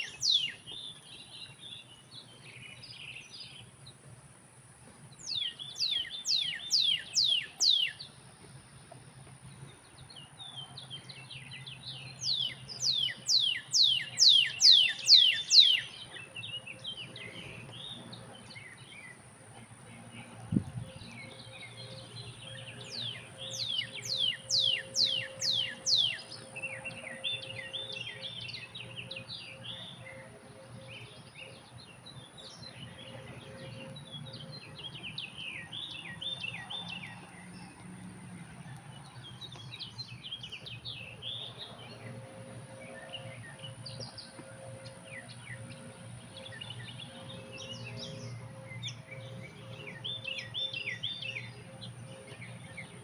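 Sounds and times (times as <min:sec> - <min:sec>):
birds singing and chirping: 0:00.0 - 0:04.0, 0:04.9 - 0:53.0
steady low hum: 0:00.0 - 0:53.0.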